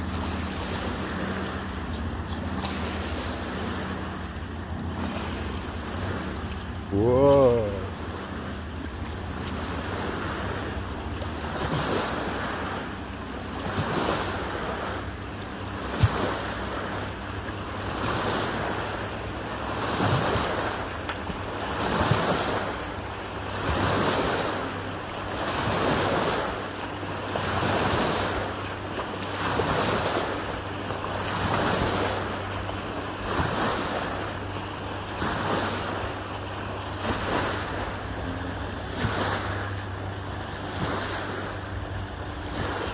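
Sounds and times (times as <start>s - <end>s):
jet ski engine humming: 0.0s - 42.9s
water lapping in swells: 0.0s - 42.9s.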